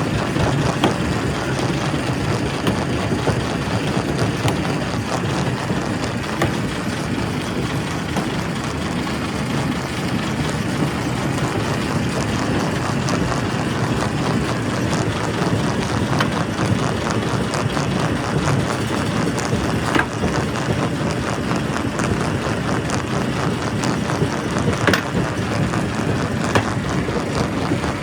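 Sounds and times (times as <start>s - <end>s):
rock crusher rumble: 0.0s - 28.0s
small knocks and clatters: 0.0s - 28.0s.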